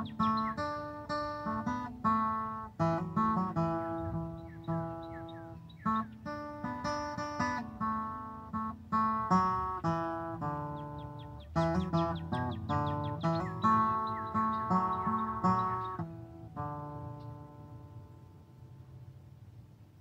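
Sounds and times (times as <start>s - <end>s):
acoustic guitar picking: 0.0s - 18.9s.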